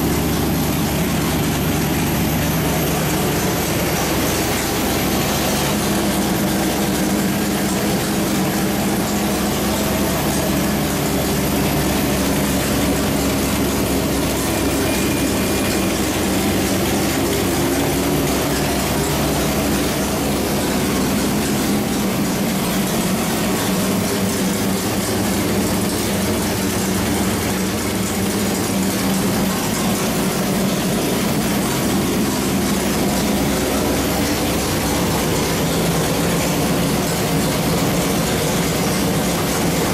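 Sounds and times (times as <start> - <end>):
car engine running steadily: 0.0 - 39.9.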